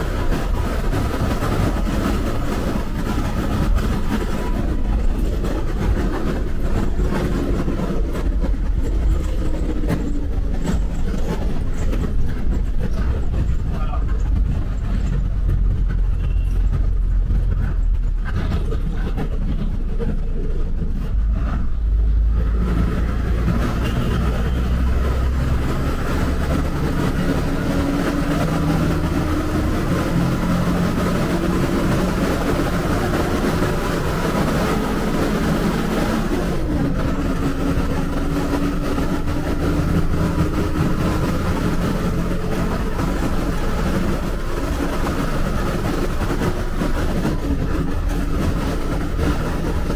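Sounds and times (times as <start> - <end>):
bus engine rumble: 0.0 - 49.9
tyre and wind noise: 0.0 - 49.9.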